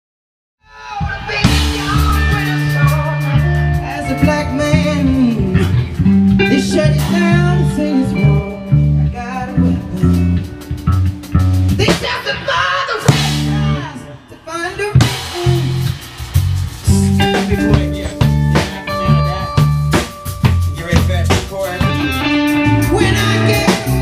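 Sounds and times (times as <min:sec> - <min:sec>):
blues-rock band playing: 0:00.8 - 0:24.0.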